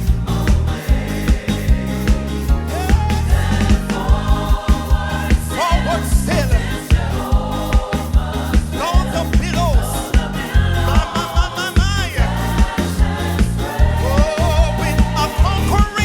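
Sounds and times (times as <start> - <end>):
bass: 0.0 - 16.0
gospel singers: 0.0 - 16.0
steady drum beat: 0.0 - 16.0.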